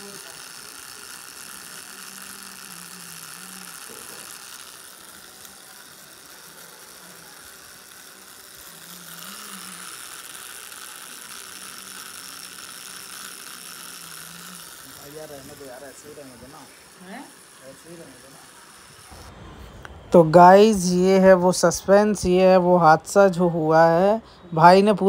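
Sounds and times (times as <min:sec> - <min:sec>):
tattoo machine whirring: 0:00.0 - 0:25.0.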